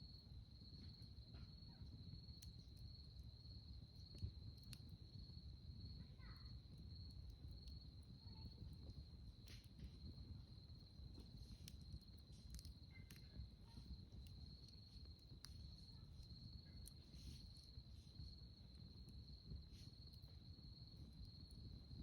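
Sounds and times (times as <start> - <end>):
campfire crackling: 0.4 - 22.0.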